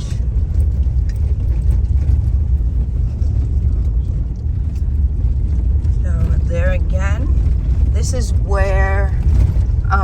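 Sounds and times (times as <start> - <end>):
car engine in cabin: 0.0 - 10.0
tyre road noise: 0.0 - 10.0.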